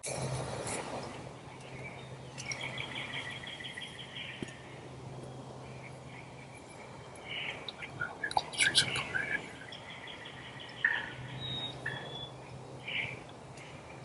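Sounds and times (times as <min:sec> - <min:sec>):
low hum: 0:00.0 - 0:14.0
outdoor background noise: 0:00.0 - 0:14.0.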